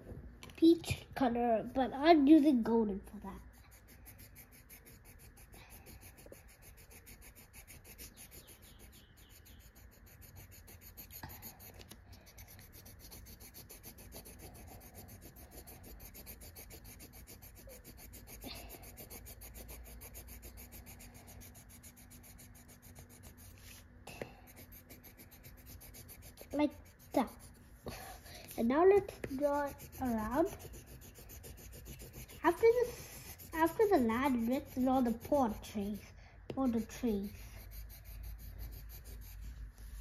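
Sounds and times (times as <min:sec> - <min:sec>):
pencil scratching on paper: 0:03.2 - 0:40.0.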